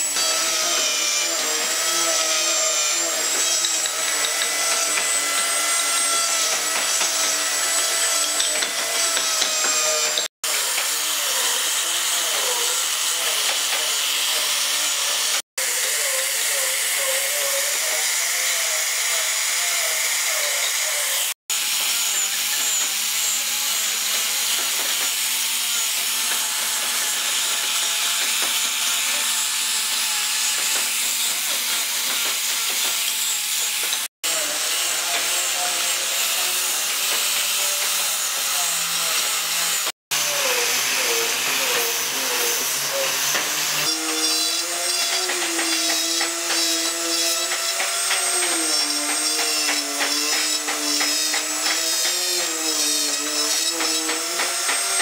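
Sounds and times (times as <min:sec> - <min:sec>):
angle grinder sanding wood: 0:00.0 - 0:55.0
rotary carving tool whining: 0:00.0 - 0:55.0.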